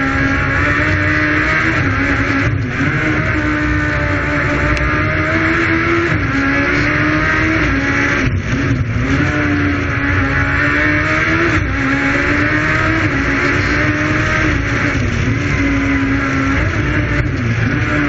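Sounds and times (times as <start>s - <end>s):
motorcycle engine accelerating hard: 0.0s - 18.0s.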